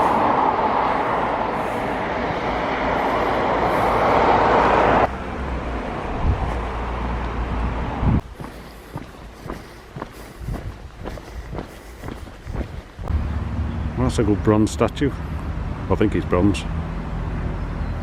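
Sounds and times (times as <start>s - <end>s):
vehicle passing by: 0.0s - 9.8s, 10.4s - 18.0s.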